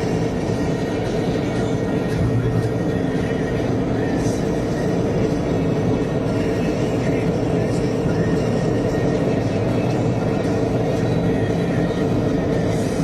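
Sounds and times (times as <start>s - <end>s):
road and engine noise inside car: 0.0s - 13.0s.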